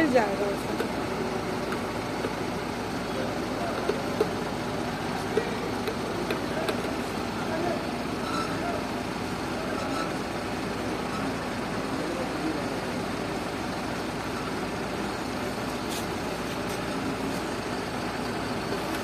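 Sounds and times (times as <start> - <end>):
diesel pump running: 0.0 - 19.0.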